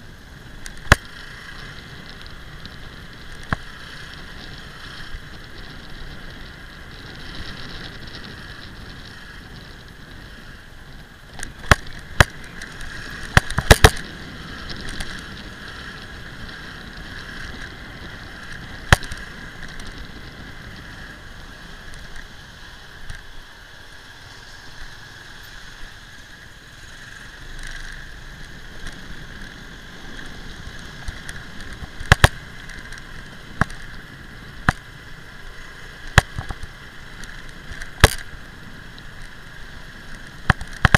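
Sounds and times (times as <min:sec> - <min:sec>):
scooter running noise: 0:00.0 - 0:40.9.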